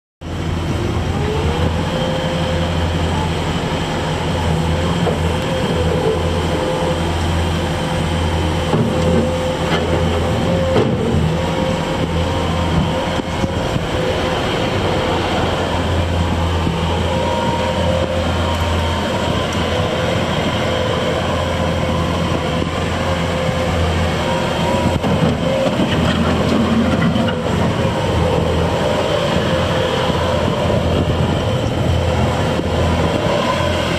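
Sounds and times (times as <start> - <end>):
diesel engine droning: 0.2 - 33.9
high whine: 0.2 - 33.9.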